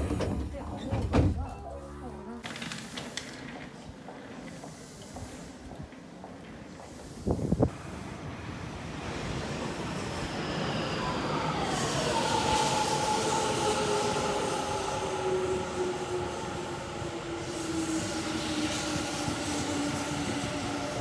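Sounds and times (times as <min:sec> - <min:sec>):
train rumbling on rails: 0:00.0 - 0:01.8, 0:02.4 - 0:21.0.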